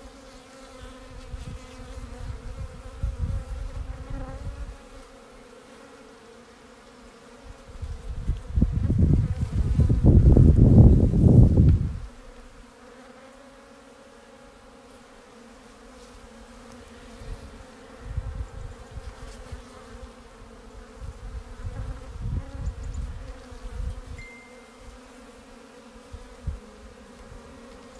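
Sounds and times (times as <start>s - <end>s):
honeybees humming: 0.0s - 27.9s.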